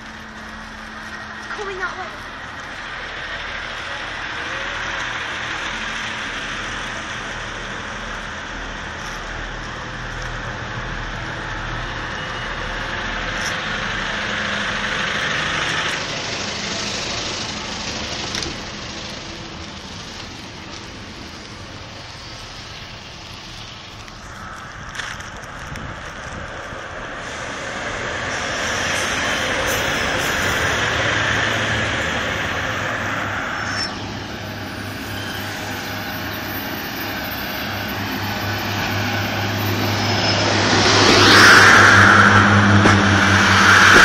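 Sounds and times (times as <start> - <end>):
broad noise: 0.0 - 44.0
diesel train engine drone: 0.0 - 44.0.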